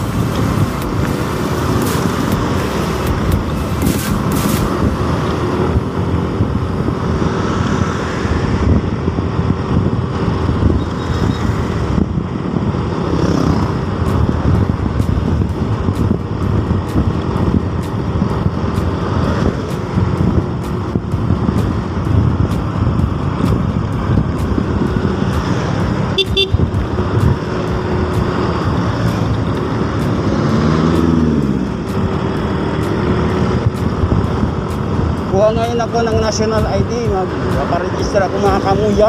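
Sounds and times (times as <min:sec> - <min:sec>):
motorcycle engine running: 0:00.0 - 0:07.1, 0:08.7 - 0:39.0
vehicles passing: 0:00.0 - 0:39.0
wind rumble: 0:00.0 - 0:39.0.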